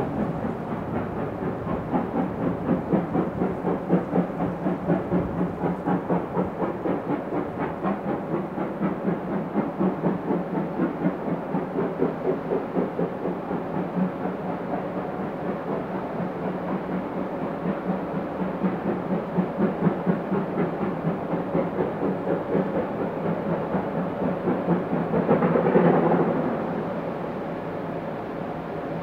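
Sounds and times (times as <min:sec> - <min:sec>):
pulsing train engine drone: 0:00.0 - 0:29.0.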